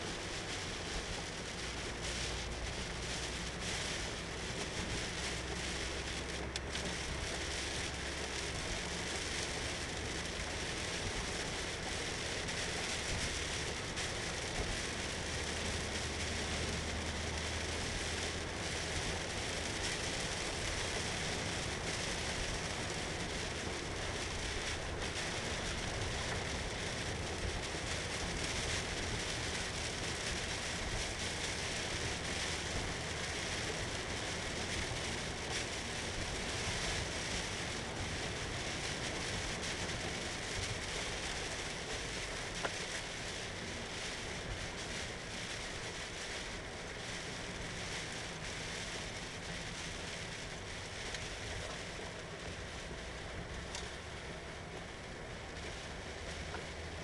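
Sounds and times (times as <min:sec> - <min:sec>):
rain hiss: 0:00.0 - 0:57.0
wet tyres on road: 0:00.0 - 0:57.0.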